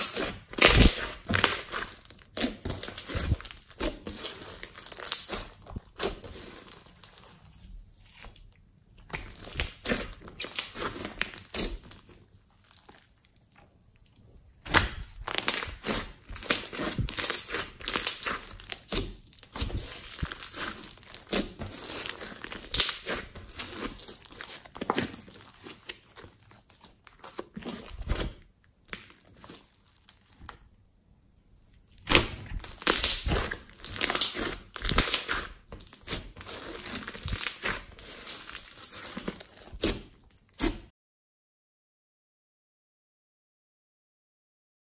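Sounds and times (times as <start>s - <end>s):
slime crackling and popping: 0.0s - 7.3s, 9.0s - 30.7s, 32.0s - 40.9s.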